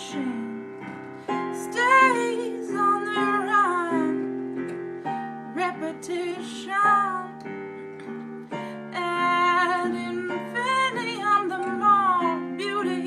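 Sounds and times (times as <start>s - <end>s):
woman singing slow melody: 0.0s - 4.4s, 5.3s - 7.6s, 8.7s - 13.0s
sustained keyboard chords: 0.0s - 13.0s.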